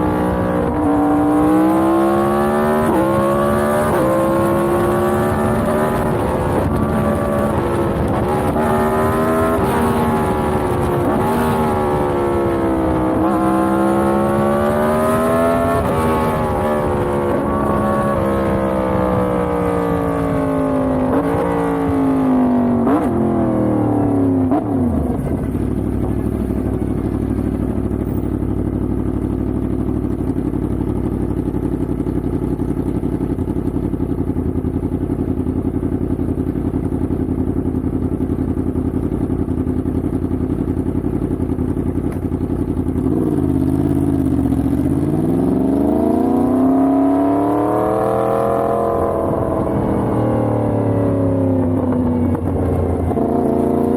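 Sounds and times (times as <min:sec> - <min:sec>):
motorcycle engine revving and idling: 0:00.0 - 0:53.9.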